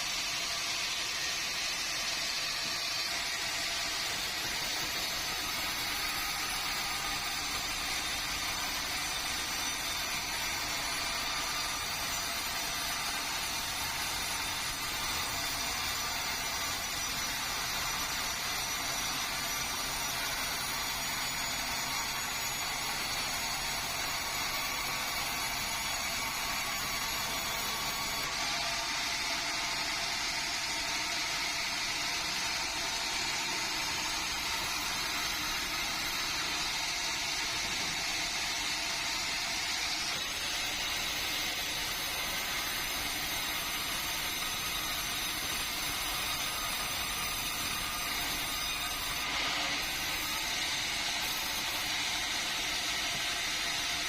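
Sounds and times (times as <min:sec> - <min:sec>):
sawmill saw cutting timber: 0:00.0 - 0:54.0.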